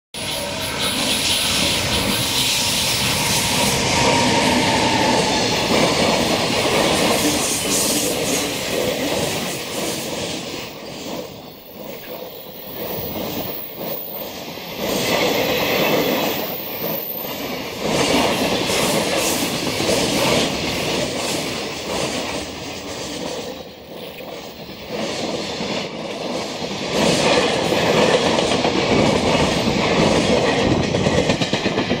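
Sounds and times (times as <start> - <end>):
train rumble: 0.2 - 32.0
train wheels clattering over rail joints: 0.2 - 32.0.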